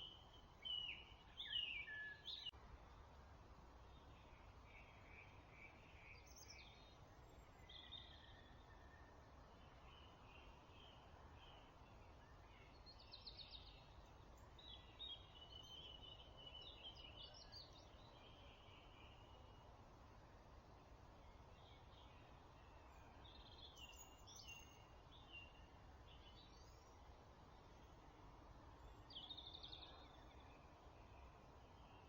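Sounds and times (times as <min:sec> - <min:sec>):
songbirds singing: 0:00.0 - 0:02.6, 0:03.7 - 0:32.0.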